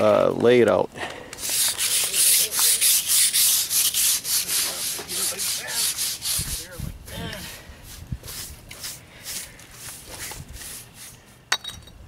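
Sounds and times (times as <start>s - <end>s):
brush scraping concrete: 1.4s - 11.4s.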